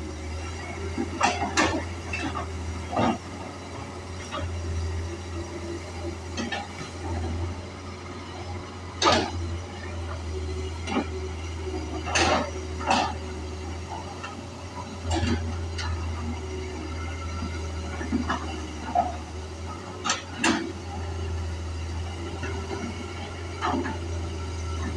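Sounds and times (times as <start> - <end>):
excavator engine humming: 0.0 - 24.9.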